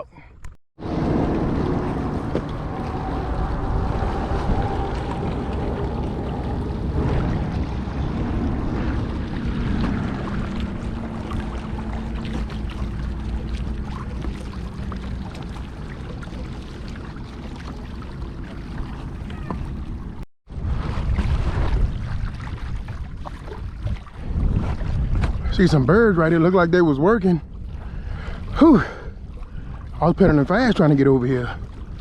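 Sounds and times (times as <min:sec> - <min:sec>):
water noise from kayak: 0:00.4 - 0:32.0
wind buffeting microphone: 0:00.8 - 0:32.0.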